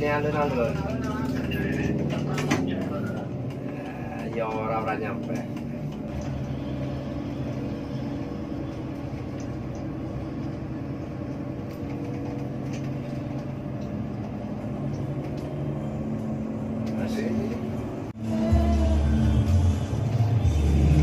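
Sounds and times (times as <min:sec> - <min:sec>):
bus diesel engine running: 0:00.0 - 0:21.0
road noise: 0:00.0 - 0:21.0.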